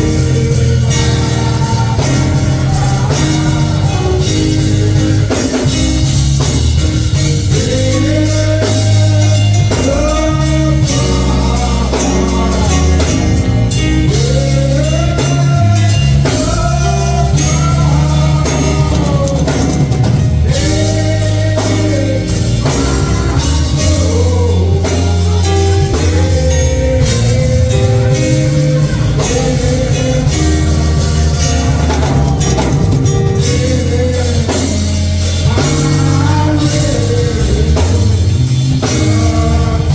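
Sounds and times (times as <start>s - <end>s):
person singing: 0.0s - 6.0s, 7.1s - 39.9s
gospel church band: 0.0s - 39.9s
sliding melody line: 0.0s - 39.9s.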